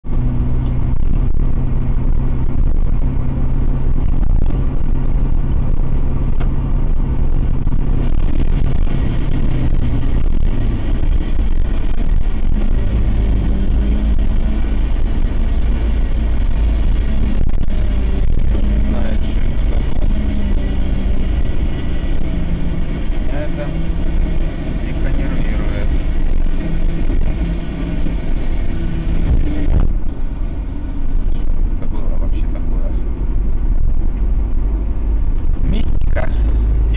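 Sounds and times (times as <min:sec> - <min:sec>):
car engine running: 0:00.0 - 0:36.9
steady hum: 0:00.0 - 0:36.9.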